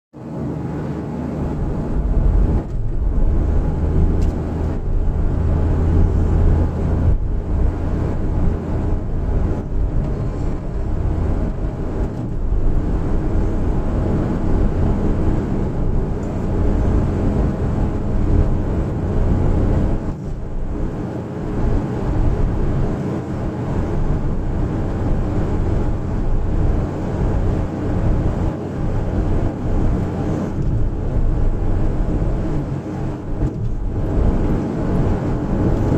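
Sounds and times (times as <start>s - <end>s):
road noise: 0.1s - 35.9s
van engine running: 0.2s - 35.9s.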